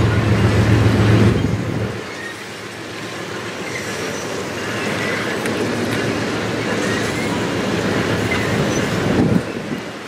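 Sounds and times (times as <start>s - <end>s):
train wheels rumbling on track: 0.0s - 10.0s
high wheel squeals: 1.2s - 9.8s.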